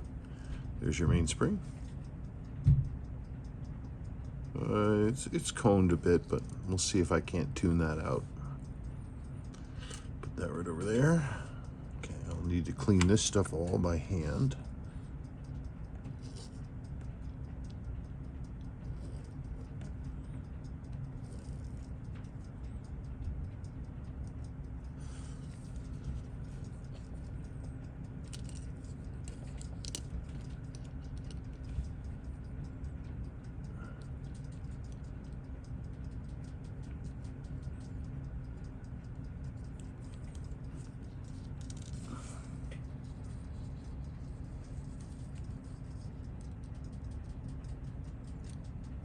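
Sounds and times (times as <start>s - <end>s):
clicks and scratches of watch tools: 0.0s - 49.0s
steady low hum: 0.0s - 49.0s.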